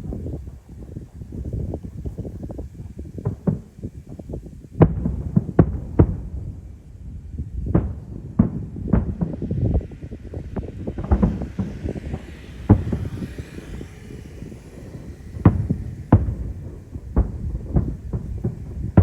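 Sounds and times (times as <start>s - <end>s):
firework shells bursting: 0.0s - 19.0s
fireworks crackling pops: 0.0s - 19.0s.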